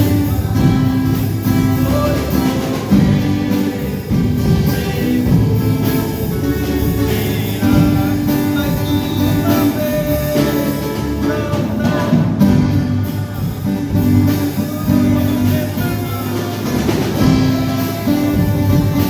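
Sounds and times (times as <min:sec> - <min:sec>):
guitar playing hymn: 0:00.0 - 0:19.0
person singing: 0:00.0 - 0:19.0.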